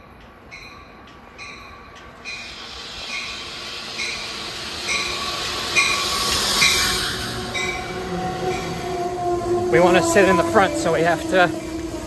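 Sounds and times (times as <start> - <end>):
train wheels and running noise: 0.0 - 12.0.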